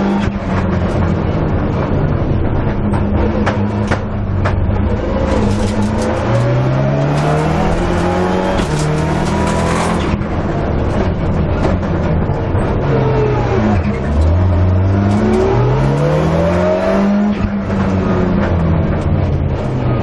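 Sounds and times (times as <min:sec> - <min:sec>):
rally car engine accelerating: 0:00.0 - 0:20.0
road and cabin noise: 0:00.0 - 0:20.0.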